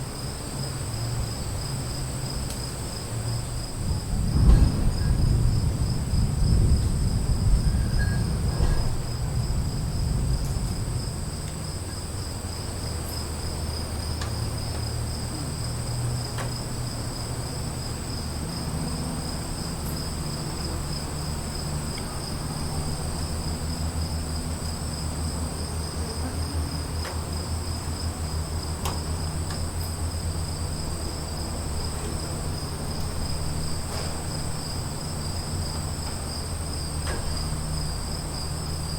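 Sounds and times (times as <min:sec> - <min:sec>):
crickets chirring: 0:00.0 - 0:38.9
distant thunder rumble: 0:00.0 - 0:38.9.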